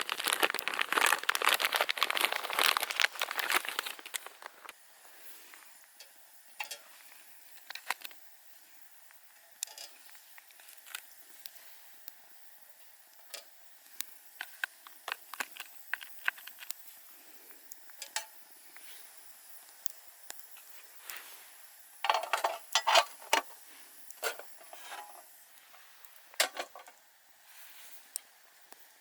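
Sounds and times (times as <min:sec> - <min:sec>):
low hiss: 0:02.9 - 0:29.0.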